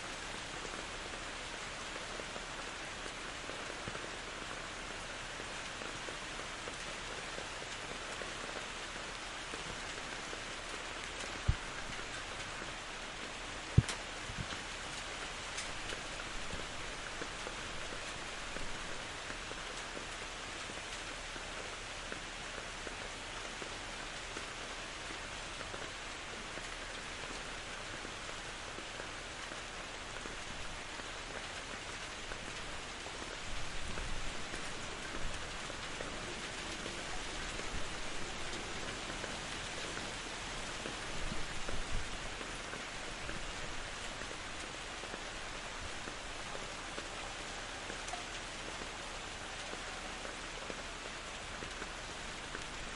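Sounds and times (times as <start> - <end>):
rain falling in a forest: 0.0 - 52.9.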